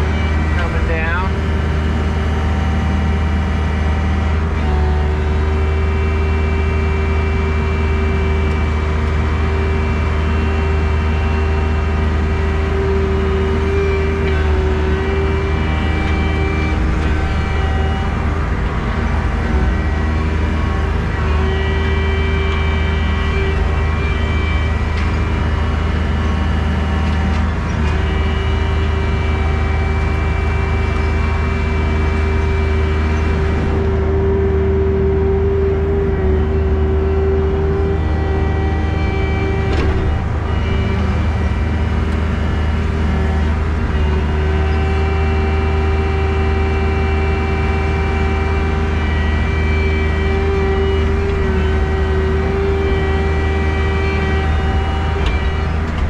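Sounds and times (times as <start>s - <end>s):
diesel engine under load: 0.0s - 56.0s
hydraulic whine: 0.0s - 56.0s.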